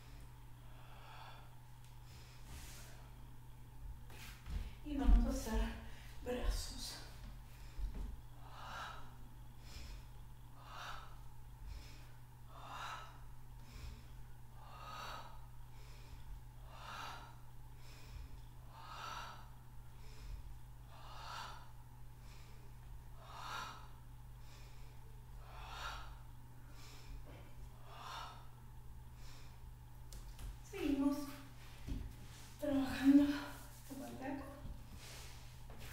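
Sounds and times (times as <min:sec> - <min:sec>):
woman breathing: 0:00.0 - 0:03.4, 0:05.7 - 0:06.3, 0:06.9 - 0:29.9, 0:30.7 - 0:35.9.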